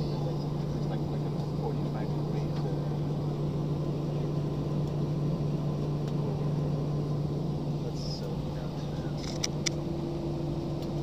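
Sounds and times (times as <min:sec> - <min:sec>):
constant low hum: 0:00.0 - 0:11.0
jet engines droning in cabin: 0:00.0 - 0:11.0.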